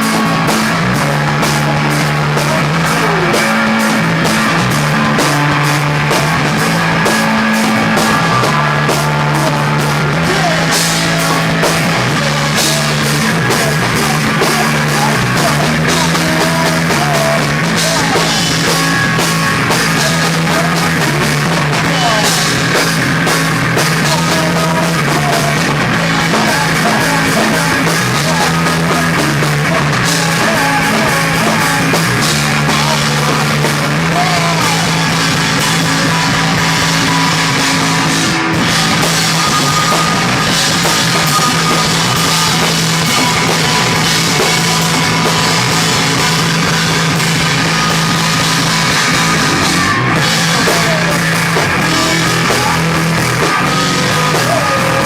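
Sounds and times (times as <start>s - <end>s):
drum kit: 0.0s - 55.0s
low bass notes: 0.0s - 55.0s
punk rock band playing: 0.0s - 55.0s.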